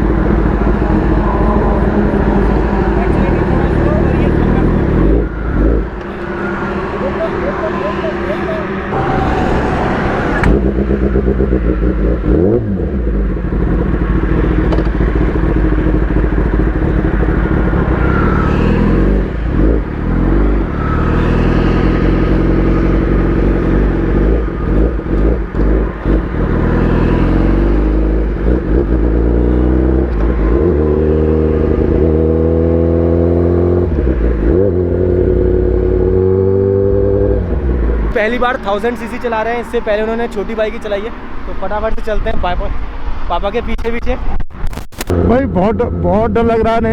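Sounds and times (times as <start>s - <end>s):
motorcycle engine revving: 0.0s - 43.3s, 45.0s - 46.9s.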